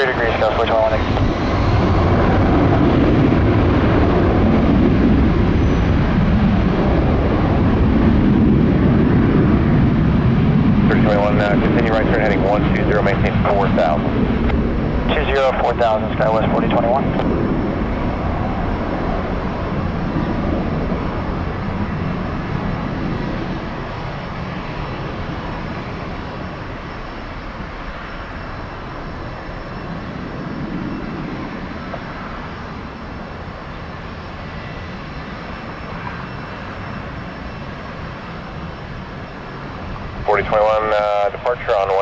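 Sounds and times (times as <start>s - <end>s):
jet engines rumbling: 0.0s - 42.0s.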